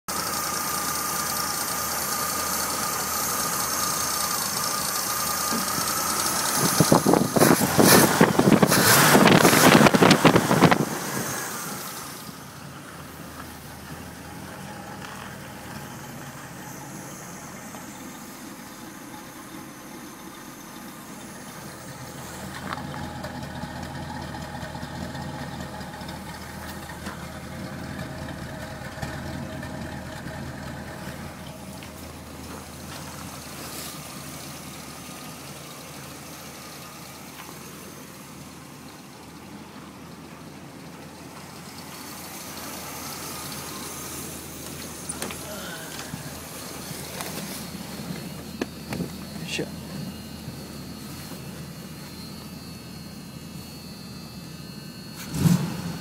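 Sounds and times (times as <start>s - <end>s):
car engine idling and revving: 0.0s - 56.0s
engine exhaust: 0.1s - 56.0s.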